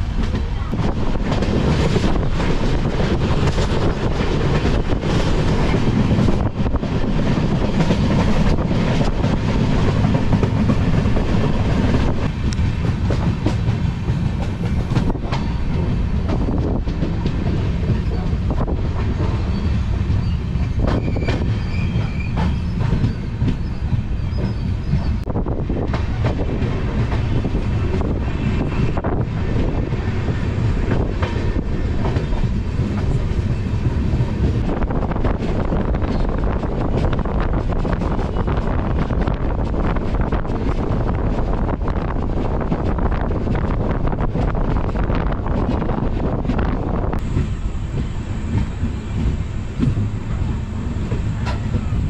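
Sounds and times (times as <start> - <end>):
train rumbling: 0.0 - 52.0
wheels clattering on rails: 0.0 - 52.0.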